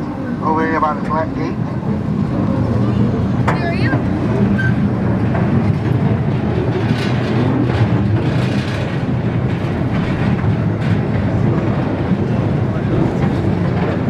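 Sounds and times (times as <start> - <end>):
ride train rumbling: 0.0 - 14.0
wheels clicking on rails: 1.6 - 14.0.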